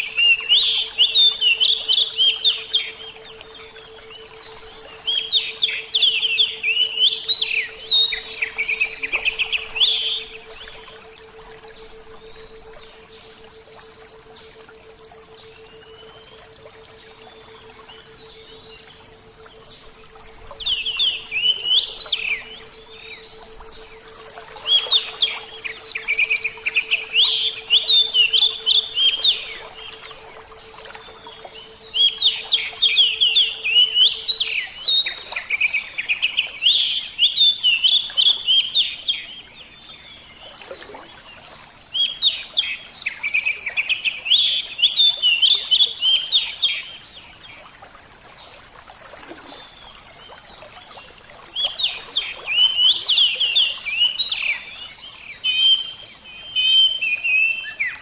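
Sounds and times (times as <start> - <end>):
songbird chirping: 0.0 - 47.7, 49.3 - 58.0.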